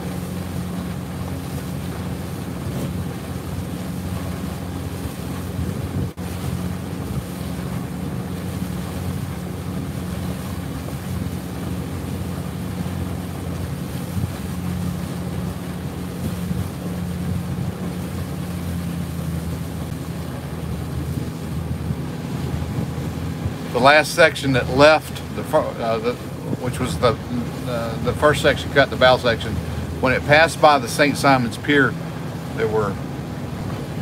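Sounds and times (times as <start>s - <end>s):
boat motor humming: 0.0s - 34.0s
water noise: 0.0s - 34.0s
wind on microphone: 0.0s - 34.0s.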